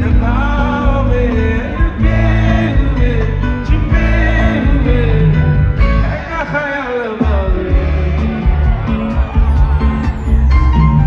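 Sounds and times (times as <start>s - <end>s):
person singing: 0.0s - 9.9s
live band music: 0.0s - 11.0s.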